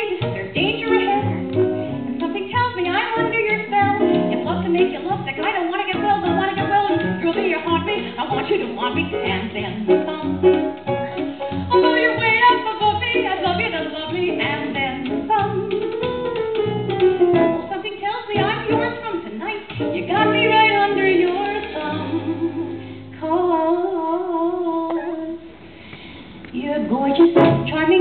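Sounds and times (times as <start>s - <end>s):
woman singing into microphone: 0.0s - 10.7s, 11.7s - 16.0s, 17.6s - 25.5s, 26.5s - 28.0s
instrumental accompaniment: 0.0s - 23.9s, 27.2s - 28.0s.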